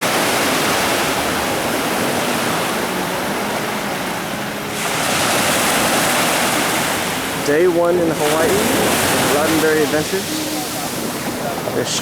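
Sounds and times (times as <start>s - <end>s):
ocean surf rushing: 0.0s - 12.0s.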